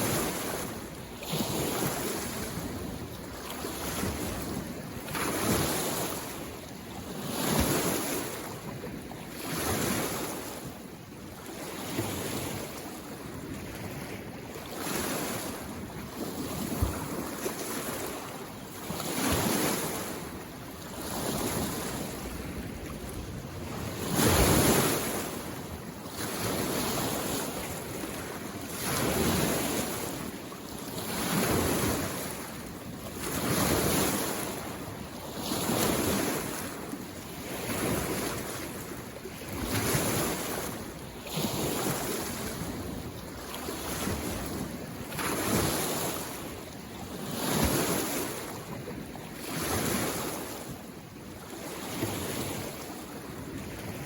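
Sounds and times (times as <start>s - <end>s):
lake waves washing ashore: 0.0s - 54.0s.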